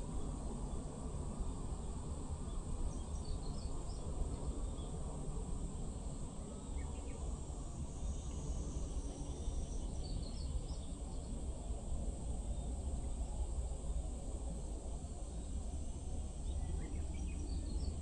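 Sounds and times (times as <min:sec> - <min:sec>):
high insect drone: 0:01.3 - 0:18.0.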